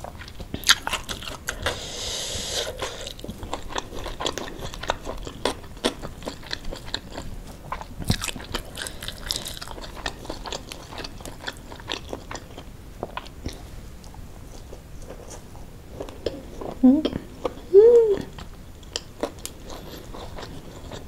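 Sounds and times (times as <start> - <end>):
person chewing crunchy food: 0.0 - 17.7, 18.3 - 21.0.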